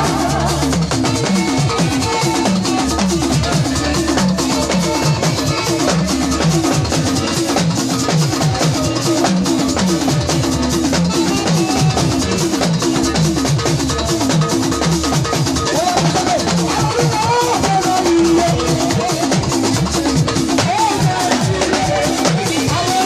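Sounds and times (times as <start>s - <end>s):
bass line: 0.0s - 23.0s
drum kit beat: 0.0s - 23.0s.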